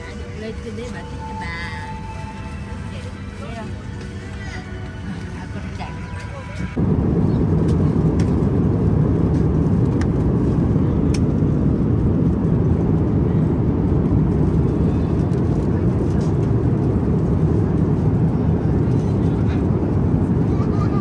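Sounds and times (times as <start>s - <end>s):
jet airliner cabin rumble: 0.0s - 21.0s.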